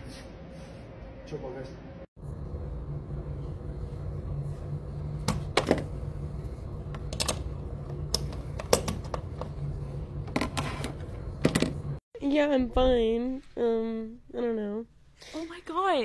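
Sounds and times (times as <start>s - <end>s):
steady low hum: 0.2s - 15.8s.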